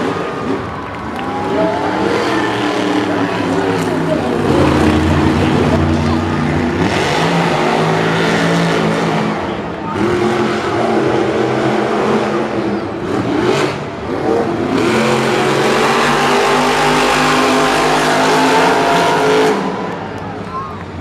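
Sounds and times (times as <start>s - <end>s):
truck engines revving hard: 0.0s - 21.0s.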